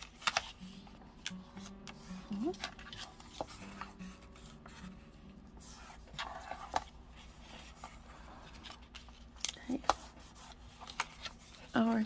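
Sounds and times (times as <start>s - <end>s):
paper rustling and rubbing: 0.0s - 12.0s.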